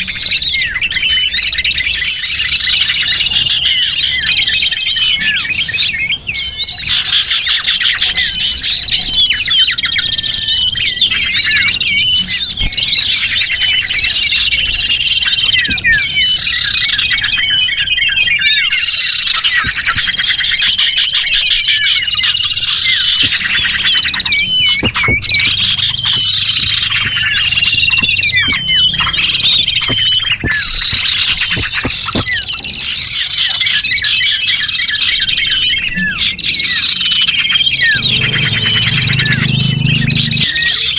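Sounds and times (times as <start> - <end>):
high trilling bird notes: 0.0 - 40.9
songbirds chirping and twittering: 0.0 - 40.9.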